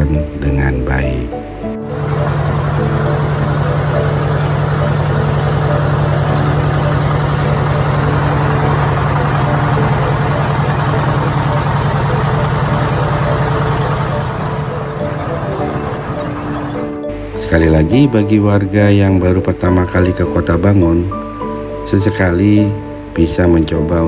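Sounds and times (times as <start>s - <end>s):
boat engine droning: 1.4s - 24.0s.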